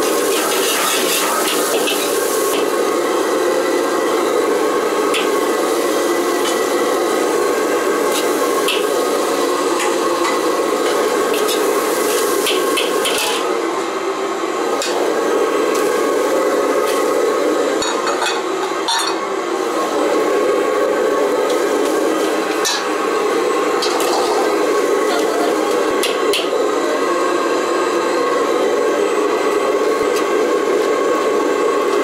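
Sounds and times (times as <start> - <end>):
gas burner rushing: 0.0 - 32.0.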